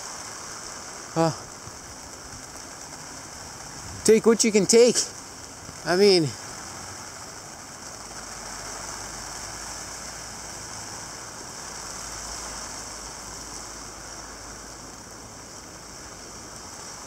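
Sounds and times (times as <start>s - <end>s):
low wind rumble: 0.0s - 17.0s
rain hissing: 0.0s - 17.0s.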